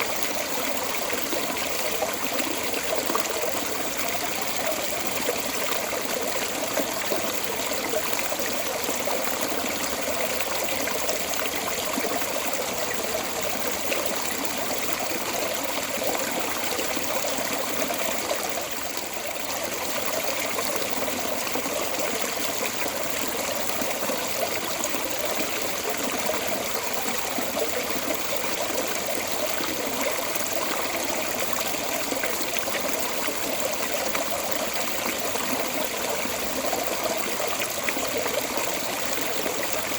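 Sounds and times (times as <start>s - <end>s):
water flowing from drain outlet: 0.0s - 39.9s.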